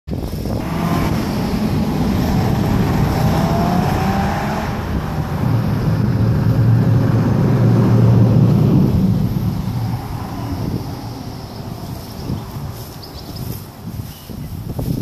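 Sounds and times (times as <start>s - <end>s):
car engine accelerating past: 0.5s - 13.0s.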